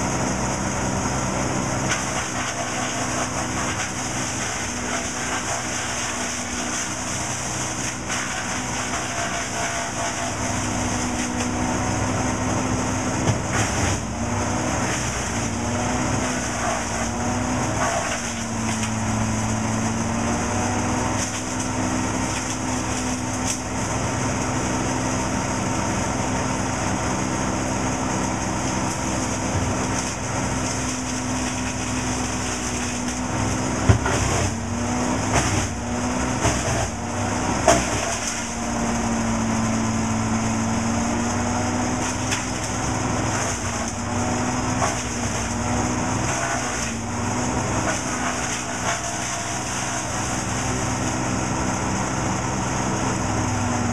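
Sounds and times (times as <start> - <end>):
brushwood cracking in shredder: 0.0 - 53.9
shredder diesel engine running: 0.0 - 53.9.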